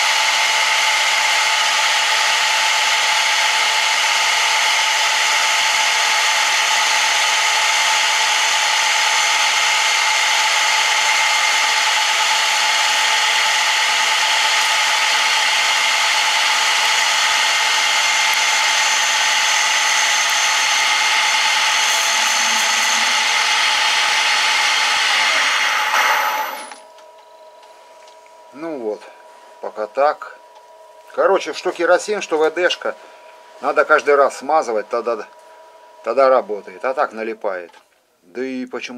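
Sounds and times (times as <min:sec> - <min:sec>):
metal lathe whining: 0:00.0 - 0:27.0, 0:31.1 - 0:36.6.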